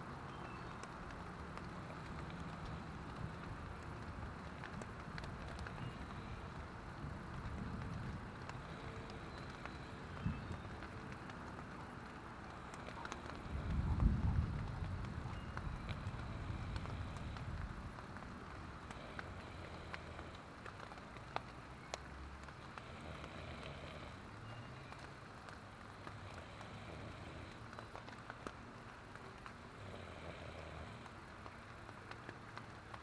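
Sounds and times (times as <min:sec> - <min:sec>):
light rain on a tent: 0:00.0 - 0:33.0.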